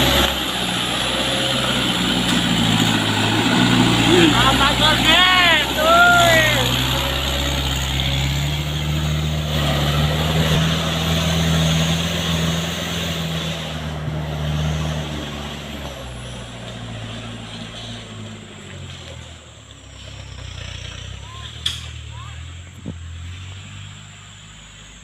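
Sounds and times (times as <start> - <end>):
truck diesel engine drone: 0.0 - 25.0.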